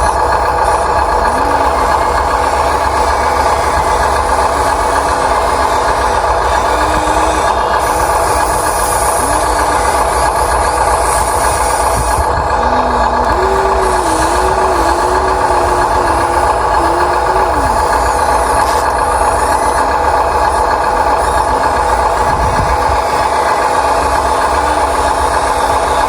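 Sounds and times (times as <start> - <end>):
electric motor and gear whine: 0.0 - 26.0.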